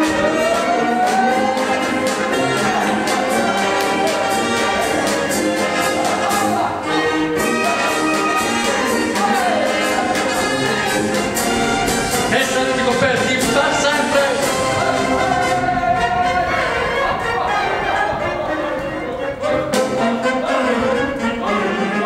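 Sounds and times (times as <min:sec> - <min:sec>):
lively brass orchestral music: 0:00.0 - 0:22.0.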